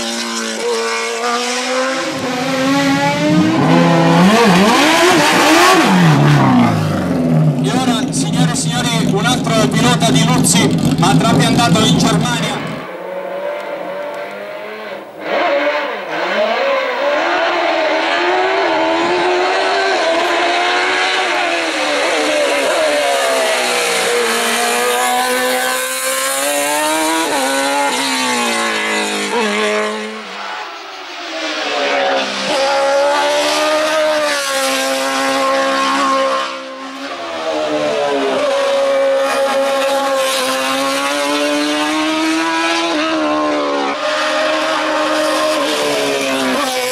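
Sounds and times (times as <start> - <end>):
race car engine at full throttle: 0.0 - 46.9.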